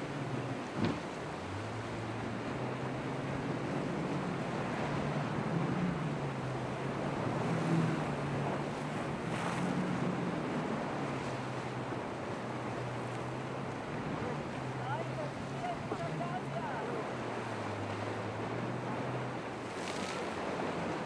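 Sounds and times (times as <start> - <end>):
boat engine humming: 0.0 - 21.0
surf washing: 0.0 - 21.0.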